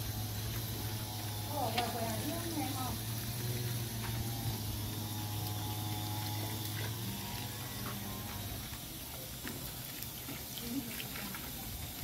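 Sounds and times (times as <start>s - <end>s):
low hum: 0.0s - 12.0s
water running from a tap: 0.0s - 12.0s.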